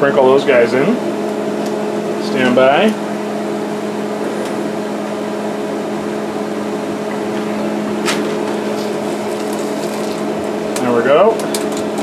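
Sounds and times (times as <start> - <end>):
pump electric hum: 0.0 - 12.0.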